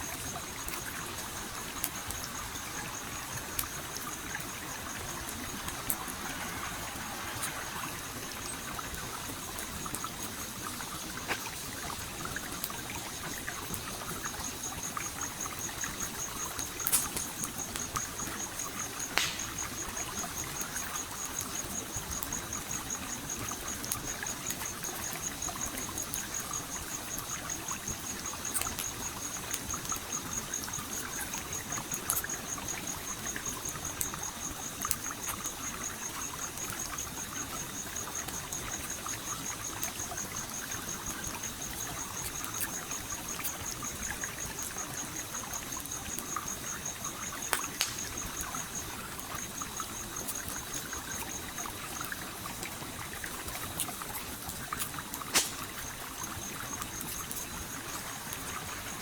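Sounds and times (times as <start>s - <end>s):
campfire crackling: 0.0s - 59.0s
stream flowing: 0.0s - 59.0s.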